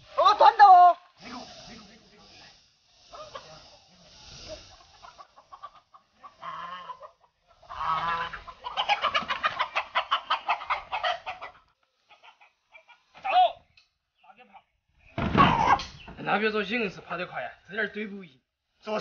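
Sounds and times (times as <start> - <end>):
chickens squawking and cackling: 0.0 - 16.2.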